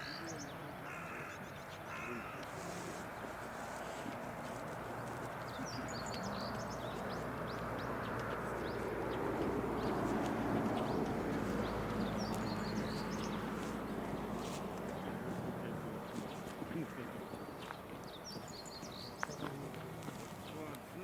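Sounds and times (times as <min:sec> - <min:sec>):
low background noise: 0:00.0 - 0:21.0
songbird chirping: 0:00.0 - 0:21.0.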